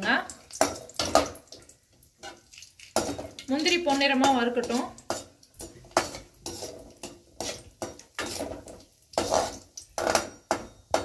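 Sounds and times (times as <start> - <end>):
spoon scraping metal pan: 0.6 - 11.0.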